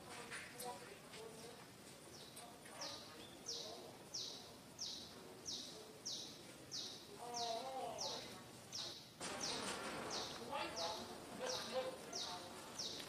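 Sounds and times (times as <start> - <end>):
background hiss: 0.0 - 13.0
bird chirping: 2.1 - 13.0.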